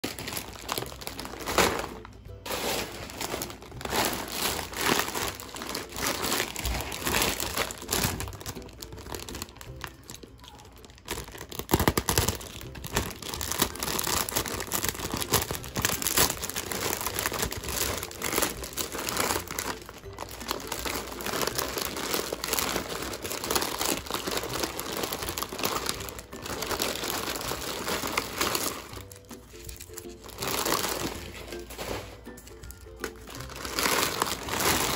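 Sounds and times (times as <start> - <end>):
plastic bag crinkling: 0.0 - 34.9.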